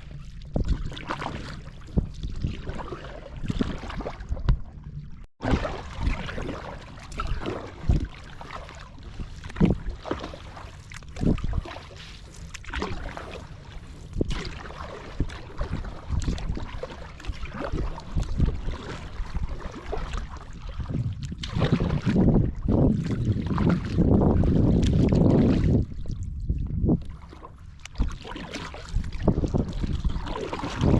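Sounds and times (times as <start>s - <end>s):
kayak paddle splashing: 0.0s - 4.7s, 5.4s - 30.9s
wind on microphone: 0.0s - 10.0s, 11.1s - 11.8s, 12.8s - 30.9s.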